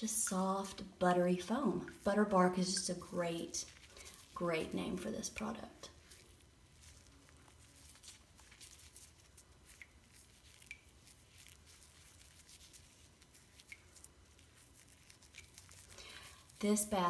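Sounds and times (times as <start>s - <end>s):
wet squishing of soap bar: 0.0s - 17.0s.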